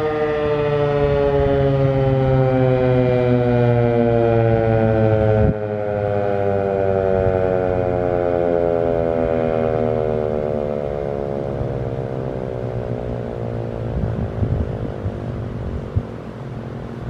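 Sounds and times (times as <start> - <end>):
warning siren winding down: 0.0 - 17.0.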